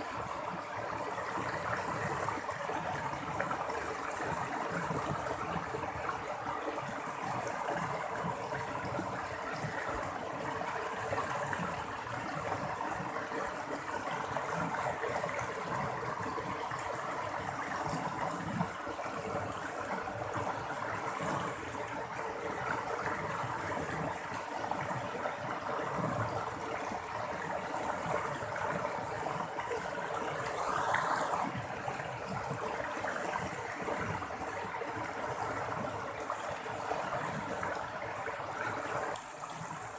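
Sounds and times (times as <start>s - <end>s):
water babbling and splashing: 0.0s - 39.9s.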